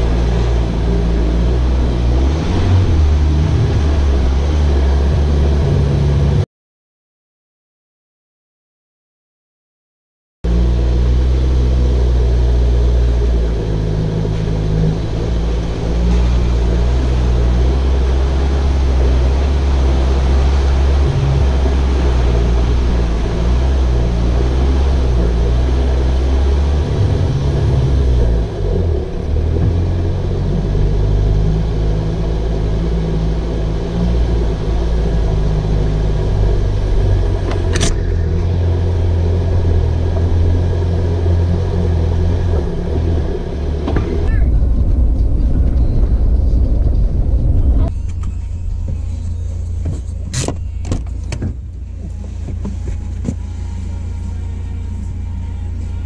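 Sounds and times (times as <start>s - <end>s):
diesel engine rumbling on dirt track: 0.0s - 6.4s, 10.4s - 56.0s.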